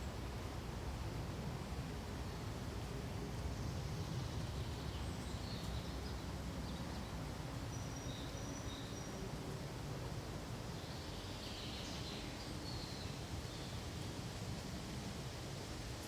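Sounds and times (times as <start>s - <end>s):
wind through pine trees: 0.0s - 16.0s.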